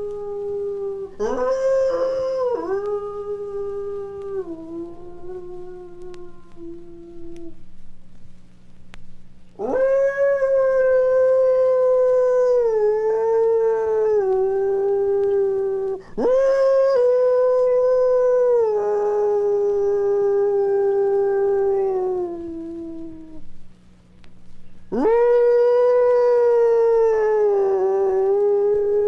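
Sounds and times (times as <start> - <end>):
werewolf howls: 0.0 - 7.6, 9.6 - 23.4, 24.9 - 29.0
faint low hum: 0.0 - 29.0.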